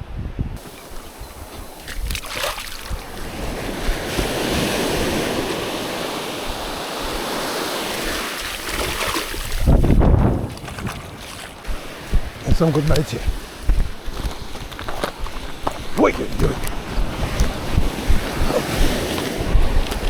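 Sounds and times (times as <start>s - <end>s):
wind buffeting microphone: 0.0s - 20.0s
wave breaking on shore: 0.6s - 20.0s.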